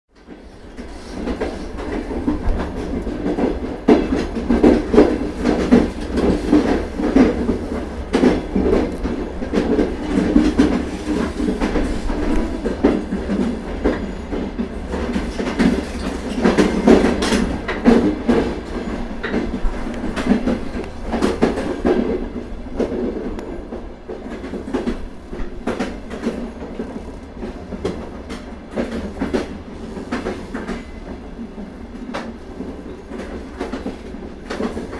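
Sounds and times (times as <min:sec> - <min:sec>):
railway carriage rumble: 0:00.1 - 0:34.9
wheels clattering on rails: 0:00.2 - 0:34.9.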